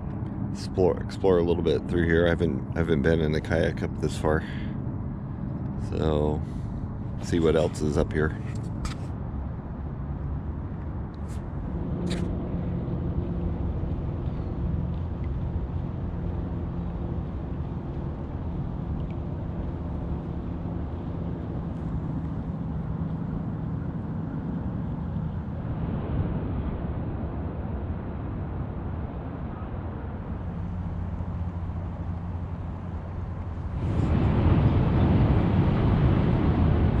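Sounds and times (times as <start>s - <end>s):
distant engine droning: 0.0s - 37.0s
low rumble: 3.9s - 37.0s.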